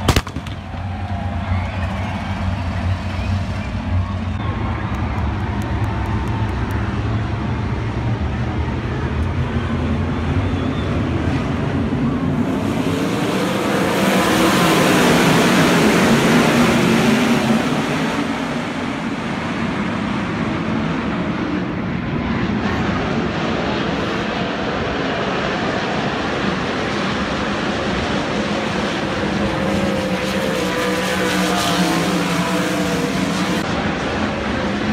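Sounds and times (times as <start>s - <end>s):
sprint car engines rumbling: 0.0s - 34.9s.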